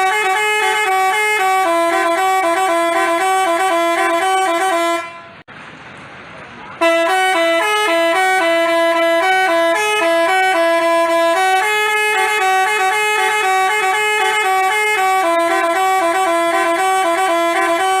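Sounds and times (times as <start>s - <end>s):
bus horn playing a melody: 0.0s - 5.5s, 6.8s - 18.0s.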